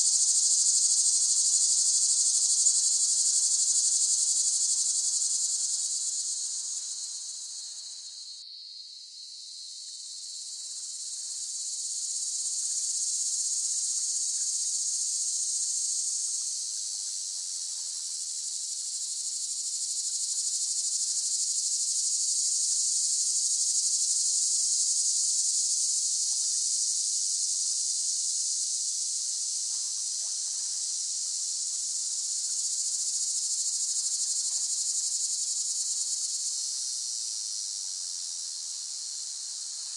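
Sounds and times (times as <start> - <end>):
cicadas buzzing: 0.0 - 16.9, 18.1 - 28.1, 28.8 - 29.6, 30.2 - 39.9.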